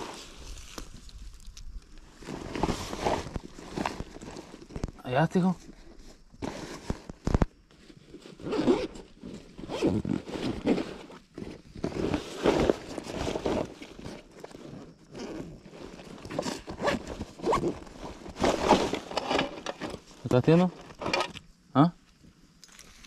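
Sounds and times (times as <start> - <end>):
leaves and grass brushing microphone: 0.0 - 21.2.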